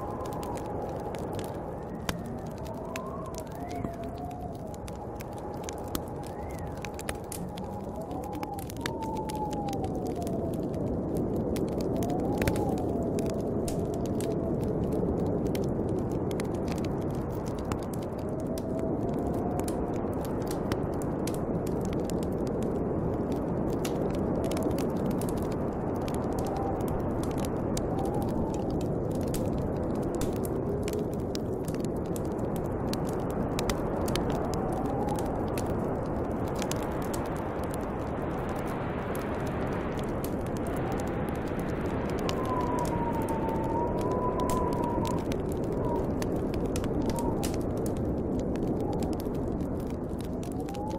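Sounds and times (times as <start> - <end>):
snowstorm wind howling: 0.0 - 50.9
wood fire crackling: 0.0 - 50.9.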